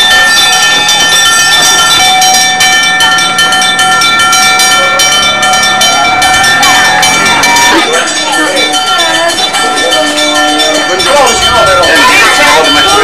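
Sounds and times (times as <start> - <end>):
bells ringing rapidly: 0.0 - 13.0.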